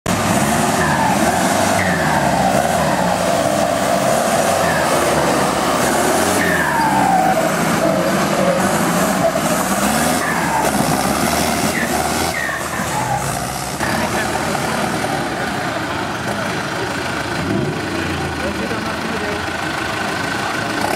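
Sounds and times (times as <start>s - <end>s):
off-road vehicle engines revving: 0.0s - 20.9s.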